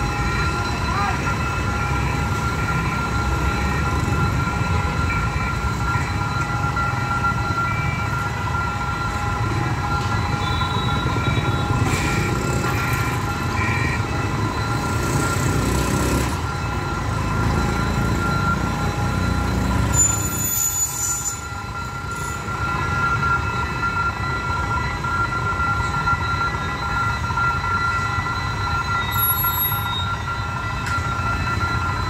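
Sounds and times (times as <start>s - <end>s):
level crossing alarm: 0.0s - 32.0s
street traffic rumble: 0.0s - 32.0s.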